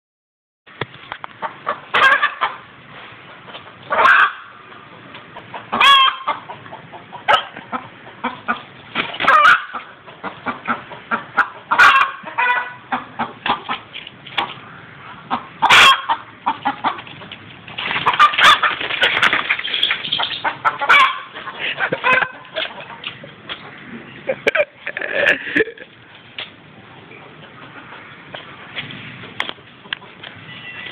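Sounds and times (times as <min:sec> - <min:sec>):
chicken clucking and squawking: 0:01.4 - 0:26.0, 0:27.1 - 0:28.7, 0:29.6 - 0:30.9.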